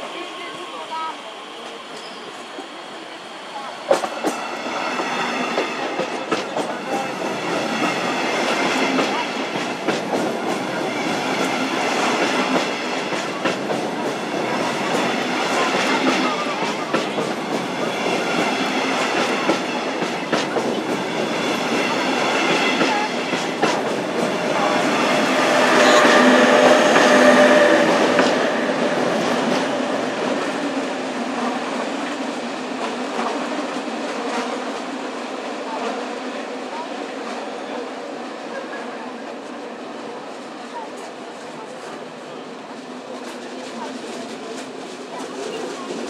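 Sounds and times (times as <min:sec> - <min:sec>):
train rolling rumble: 0:00.0 - 0:46.0
train wheels clicking on track: 0:00.4 - 0:46.0.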